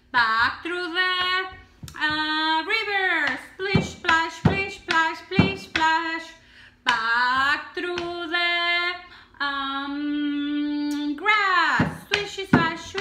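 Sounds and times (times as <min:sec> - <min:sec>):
woman chanting sing-song: 0:00.1 - 0:13.0.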